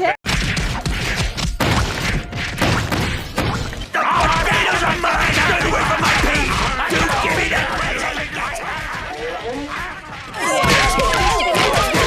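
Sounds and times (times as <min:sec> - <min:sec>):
punch thuds and whacks: 0:00.2 - 0:12.0.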